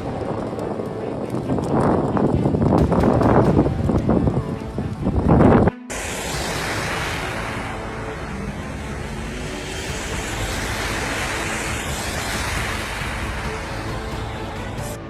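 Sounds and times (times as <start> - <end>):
strong wind rushing: 0.0 - 15.0.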